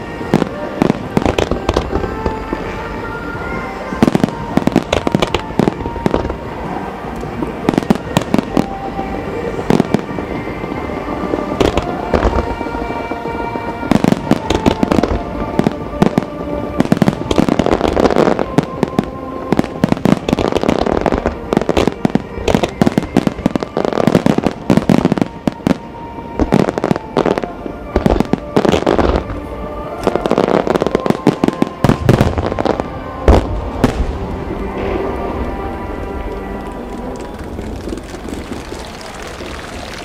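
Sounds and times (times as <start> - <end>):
fireworks bangs and crackle: 0.0 - 40.0
music playing: 0.0 - 40.0.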